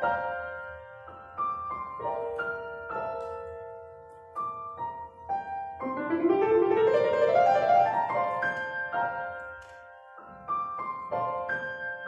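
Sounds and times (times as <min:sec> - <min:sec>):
grand piano playing: 0:00.0 - 0:12.0.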